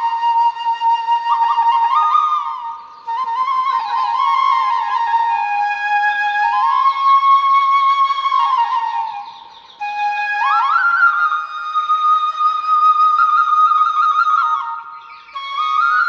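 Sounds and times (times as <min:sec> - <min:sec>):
flute playing slow melody: 0:00.0 - 0:16.0.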